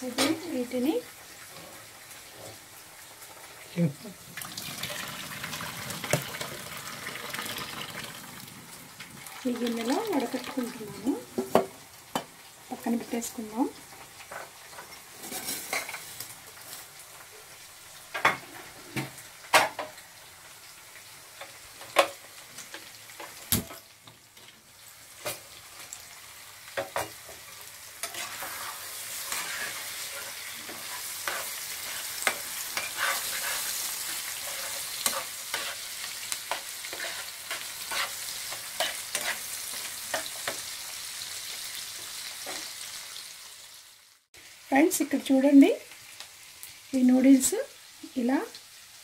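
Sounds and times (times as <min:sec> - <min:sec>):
eggs sizzling in oil: 0:00.0 - 0:49.0.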